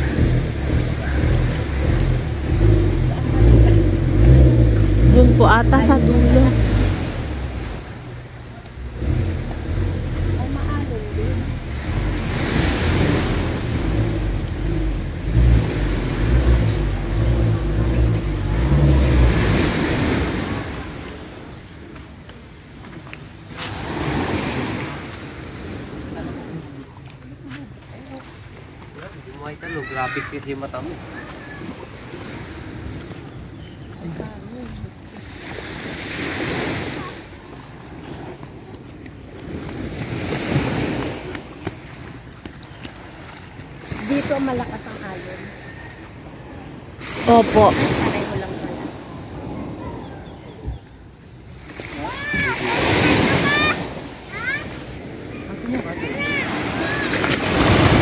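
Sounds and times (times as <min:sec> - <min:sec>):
surf rushing: 0:00.0 - 0:27.5, 0:28.9 - 0:38.7, 0:39.3 - 0:58.0
waves washing on sandy beach: 0:00.0 - 0:58.0.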